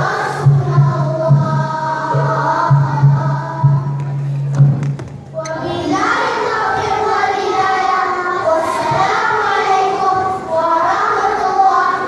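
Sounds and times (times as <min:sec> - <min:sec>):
children's choir singing: 0:00.0 - 0:04.6, 0:05.3 - 0:12.0.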